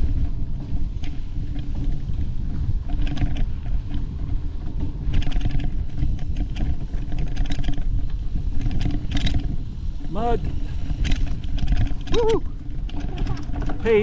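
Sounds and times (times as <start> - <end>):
bike rattling over bumps: 0.0 - 14.0
wind rumbling on microphone: 0.0 - 14.0.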